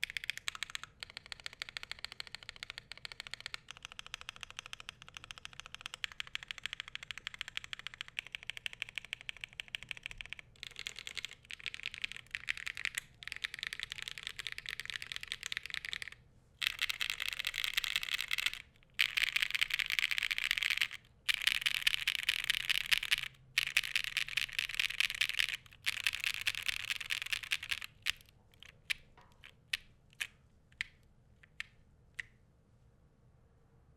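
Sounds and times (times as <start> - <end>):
typing on mechanical keyboard: 0.0 - 31.8.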